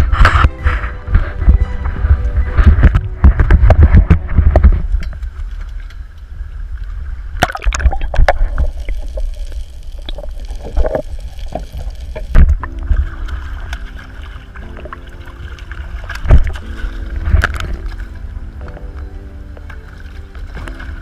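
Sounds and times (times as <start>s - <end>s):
low rumble of water and wind: 0.0s - 21.0s
sea water splashing and gurgling: 0.6s - 21.0s.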